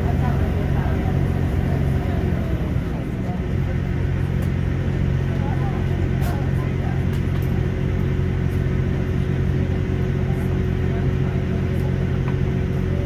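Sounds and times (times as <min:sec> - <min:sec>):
train diesel engine hum: 0:00.0 - 0:13.0.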